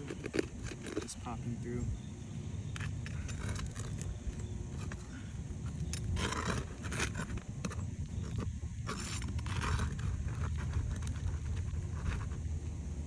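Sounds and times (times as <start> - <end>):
pry bar clicking on shingles: 0.0 - 1.2, 2.7 - 12.3.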